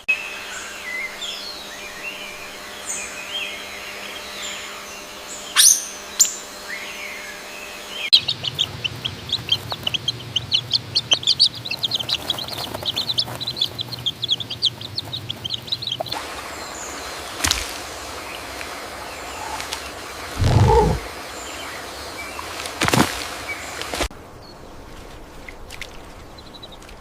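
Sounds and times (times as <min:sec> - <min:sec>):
birds chirping: 0:00.0 - 0:24.8.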